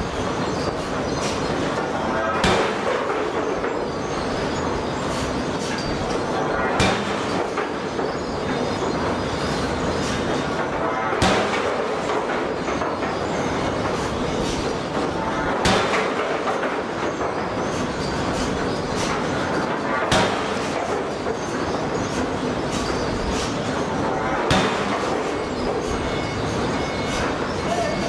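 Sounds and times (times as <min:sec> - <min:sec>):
forge shop din: 0:00.0 - 0:28.0.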